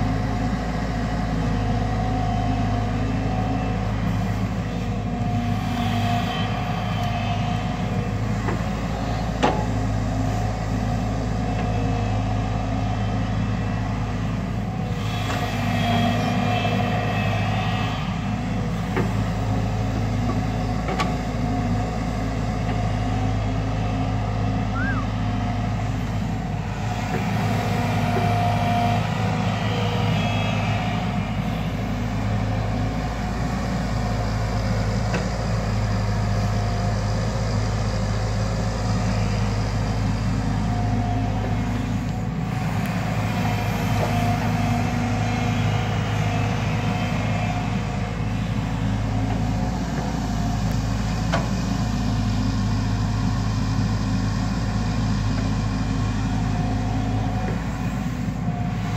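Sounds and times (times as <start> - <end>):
excavator diesel engine: 0.0 - 58.9
hydraulic whine: 1.6 - 23.6, 24.4 - 58.9.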